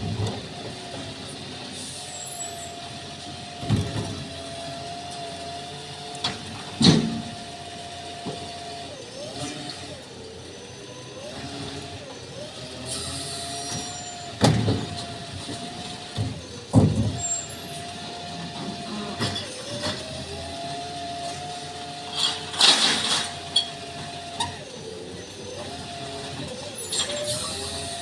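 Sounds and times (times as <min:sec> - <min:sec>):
garbage truck whine: 0:00.0 - 0:28.0.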